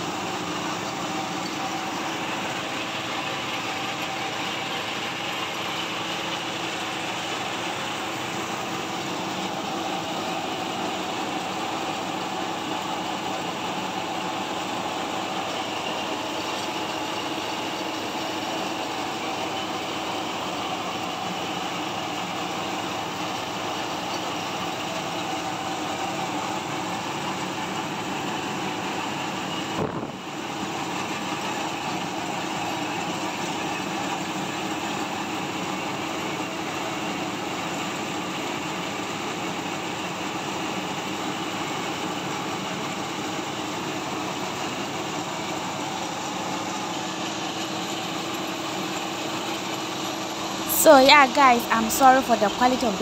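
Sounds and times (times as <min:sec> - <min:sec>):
rice pouring from chute: 0:00.0 - 0:50.8
rice milling machine humming: 0:00.0 - 0:53.0.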